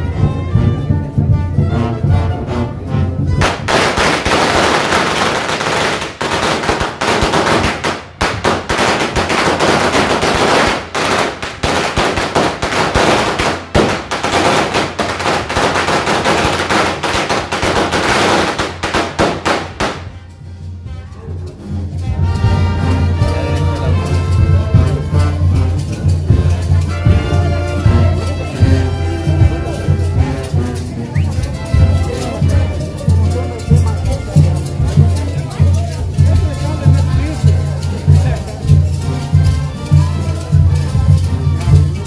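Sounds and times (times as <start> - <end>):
brass band music: 0.0 - 42.0
firecrackers crackling: 3.4 - 20.8, 21.8 - 42.0.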